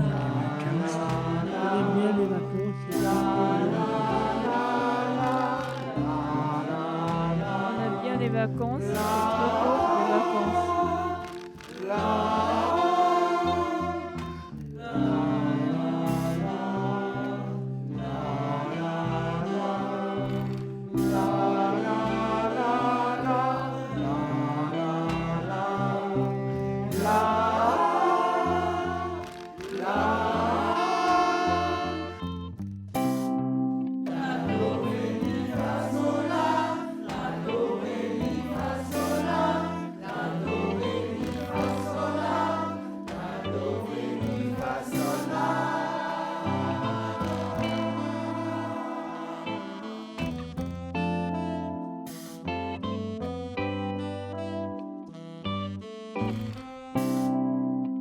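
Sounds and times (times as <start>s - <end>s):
song with sung voices: 0.0s - 33.4s, 34.0s - 55.5s
steady bass line: 0.0s - 48.9s, 49.5s - 57.8s
held chord: 0.0s - 58.0s
instrumental accompaniment: 0.0s - 58.0s.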